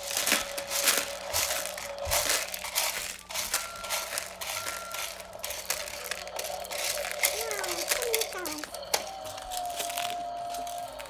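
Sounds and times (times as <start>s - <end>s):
dried beans rattling in plastic: 0.0s - 11.0s.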